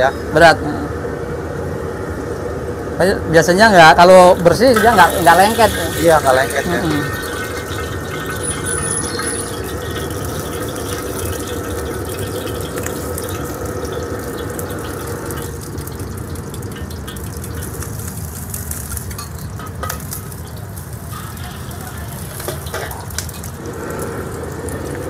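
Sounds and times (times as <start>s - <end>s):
gas burner hissing: 1.4s - 25.0s.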